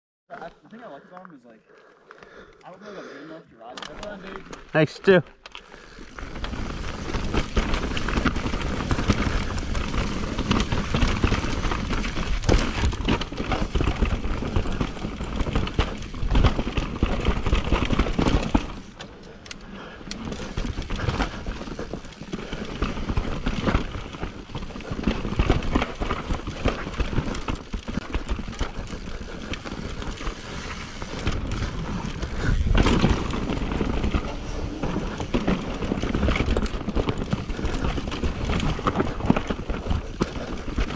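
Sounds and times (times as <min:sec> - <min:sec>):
bike tyres rumbling on dirt: 0:04.0 - 0:40.9
bike chain and frame clattering: 0:05.4 - 0:40.9.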